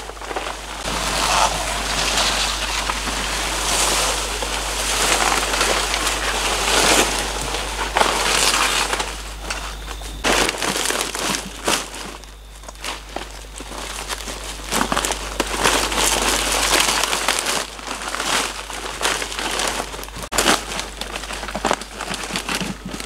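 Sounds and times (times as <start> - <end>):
leaves crackling and snapping: 0.0 - 23.0
palm leaves rustling and crunching: 0.0 - 23.0.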